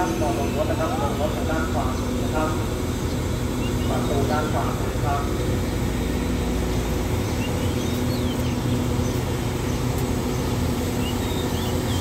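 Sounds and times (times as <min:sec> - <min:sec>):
diesel train idling: 0:00.0 - 0:12.0.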